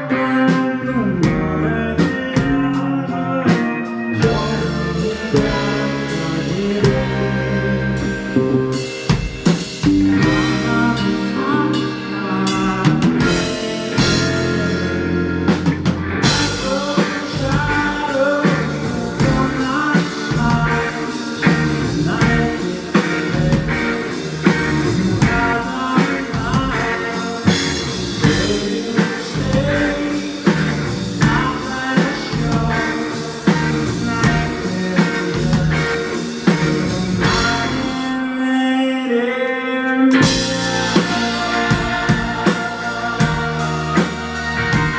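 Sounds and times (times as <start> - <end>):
live rock band playing: 0.0 - 44.9
person singing: 0.0 - 44.9.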